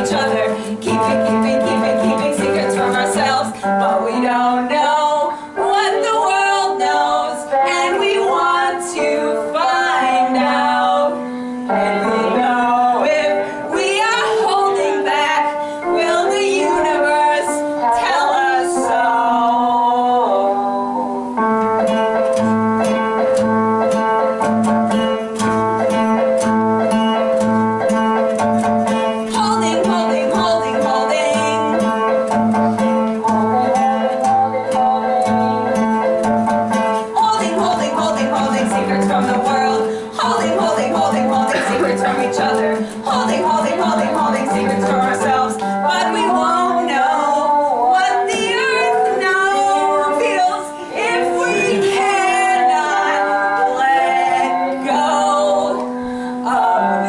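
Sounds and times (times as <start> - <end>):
person singing: 0.0 - 21.4, 28.9 - 57.0
acoustic guitar strumming: 0.0 - 57.0.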